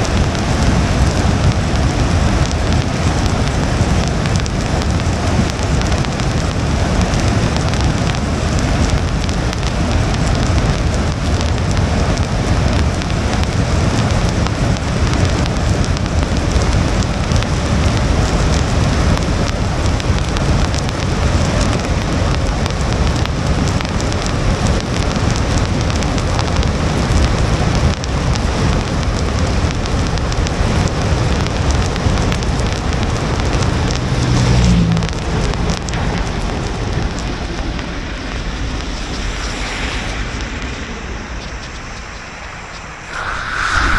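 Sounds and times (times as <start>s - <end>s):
rain on car windshield: 0.0s - 40.7s
tyres on wet road: 0.0s - 43.9s.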